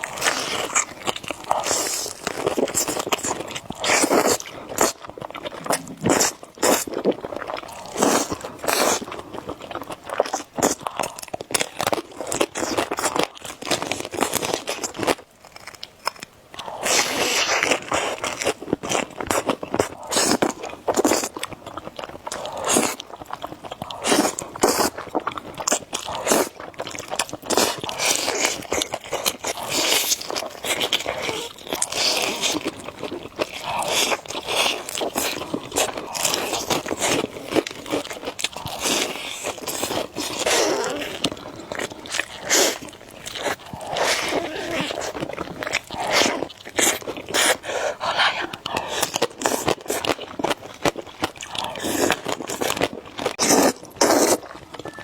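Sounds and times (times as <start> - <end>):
biting and chewing noodles: 0.0 - 55.0.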